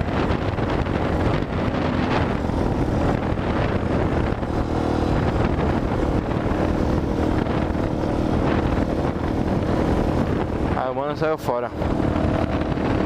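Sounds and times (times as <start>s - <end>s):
motorcycle engine with loud exhaust: 0.0s - 13.0s
wind buffeting microphone: 0.0s - 13.0s.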